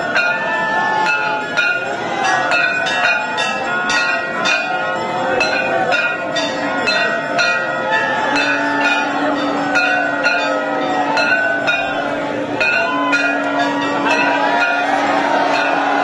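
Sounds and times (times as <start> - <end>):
temple bells ringing: 0.0 - 16.0.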